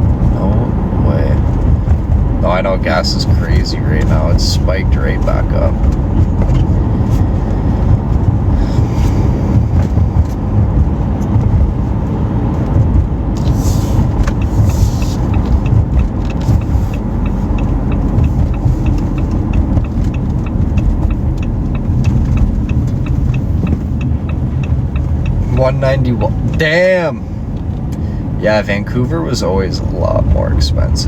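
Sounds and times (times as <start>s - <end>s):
car road and engine rumble: 0.0s - 31.0s
light regular ticking: 1.2s - 28.1s.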